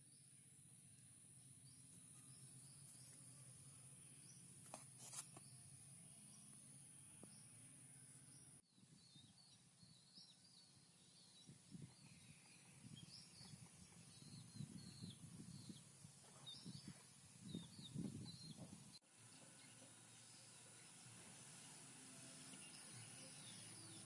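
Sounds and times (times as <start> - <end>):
small birds chirping: 0.0 - 24.0
steady low hum and hiss: 0.0 - 24.0.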